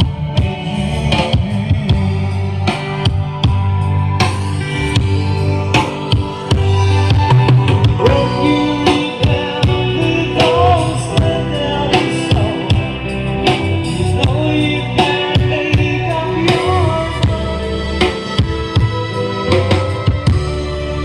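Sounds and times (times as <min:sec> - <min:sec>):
loud music with singing and bass: 0:00.0 - 0:21.0.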